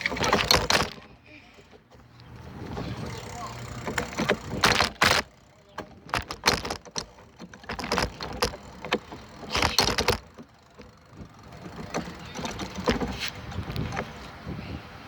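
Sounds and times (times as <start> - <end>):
clicks knocks and rattling: 0.0 - 14.4
rustling bursts: 0.0 - 14.4.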